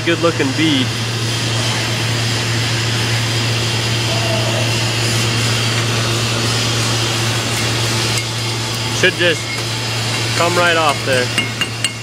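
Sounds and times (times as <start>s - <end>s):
shop machinery idling: 0.0s - 12.0s.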